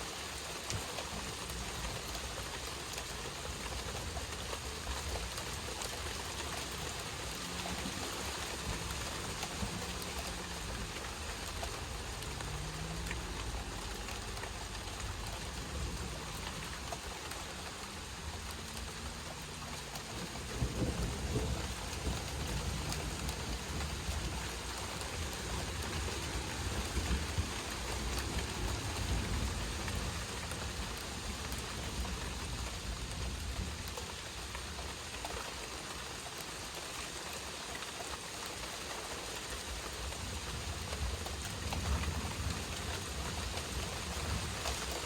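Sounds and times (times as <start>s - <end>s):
raindrops ticking on a surface: 0.0s - 45.0s
steady rain falling: 0.0s - 45.0s.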